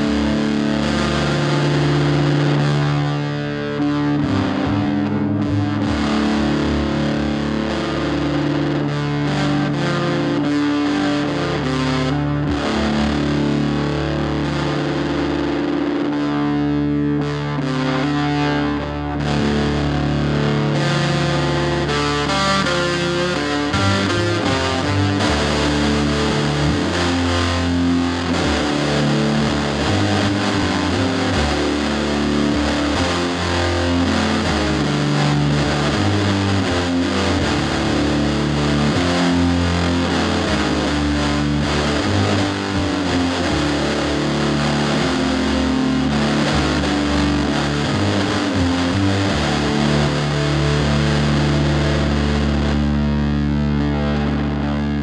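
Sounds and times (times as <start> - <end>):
distorted electric guitar music: 0.0 - 55.0.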